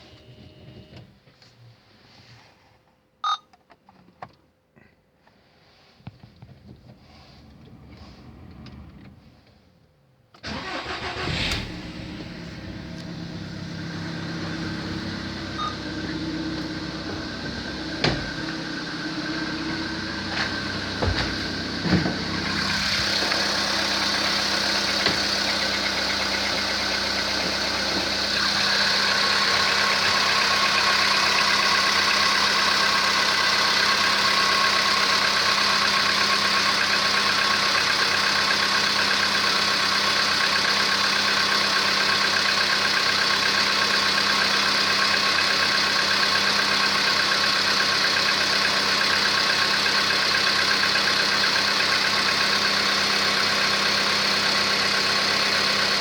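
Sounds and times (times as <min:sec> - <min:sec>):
car engine idling: 0:10.4 - 0:56.0.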